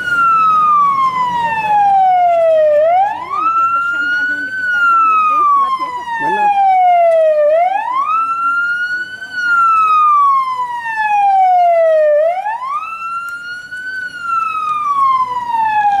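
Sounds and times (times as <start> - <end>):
electronic siren wailing: 0.0 - 16.0.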